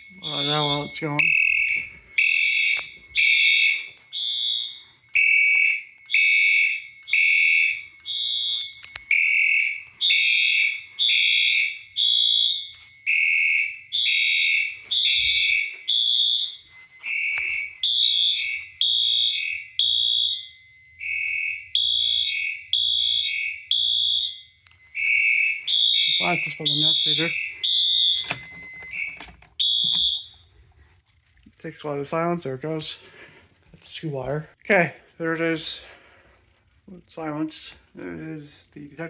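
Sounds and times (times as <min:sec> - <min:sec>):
fire alarm beeping: 0:00.0 - 0:31.8.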